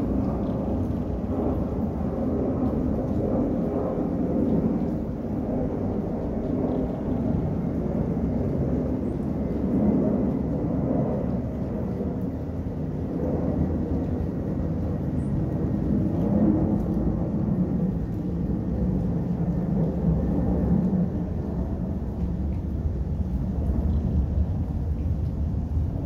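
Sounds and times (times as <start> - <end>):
steady rain rumble: 0.0 - 26.0.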